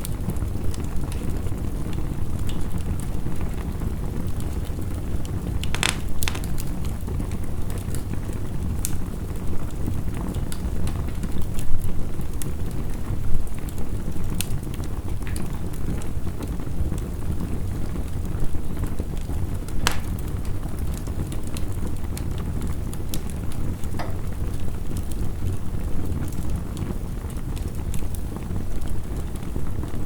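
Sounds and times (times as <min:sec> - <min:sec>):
heavy rain rumble: 0:00.0 - 0:30.0
wood fire crackling and popping: 0:00.0 - 0:30.0.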